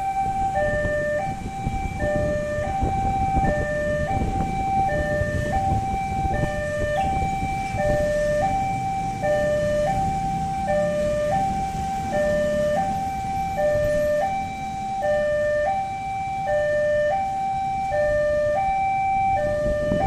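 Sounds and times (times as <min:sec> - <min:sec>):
road traffic: 0:00.0 - 0:20.0
two-tone crossing alarm: 0:00.0 - 0:20.0.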